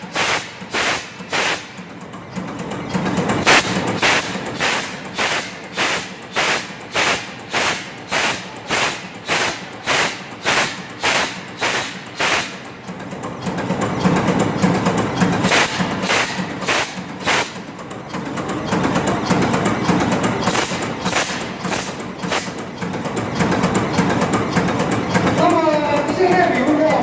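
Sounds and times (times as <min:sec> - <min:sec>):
marine diesel engine beating: 0:00.0 - 0:27.0.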